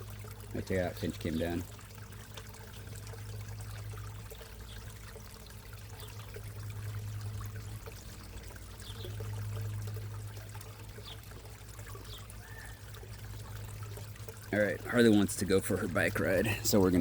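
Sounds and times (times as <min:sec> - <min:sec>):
water pouring and trickling: 0:00.0 - 0:17.0.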